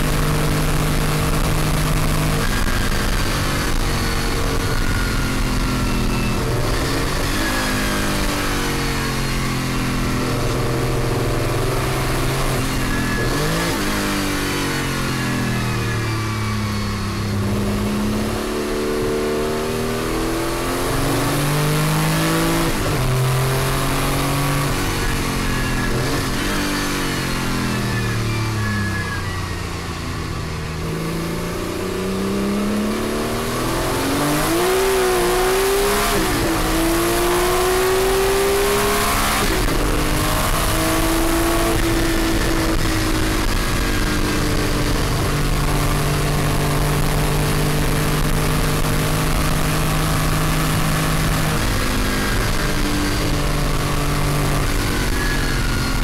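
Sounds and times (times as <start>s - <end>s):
racing engine revving: 0.0s - 15.4s, 16.3s - 29.2s, 30.8s - 56.0s.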